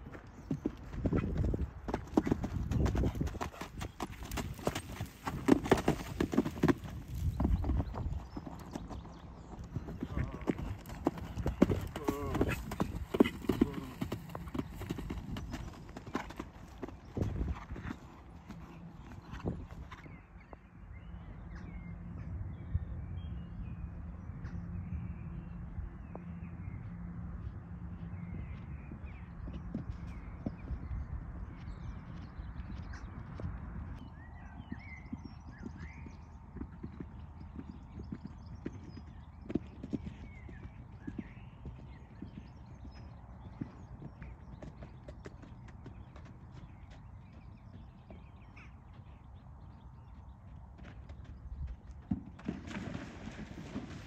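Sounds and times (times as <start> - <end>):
horse hoofbeats cantering: 0.0 - 20.6, 26.0 - 54.0
birds chirping: 0.0 - 52.1.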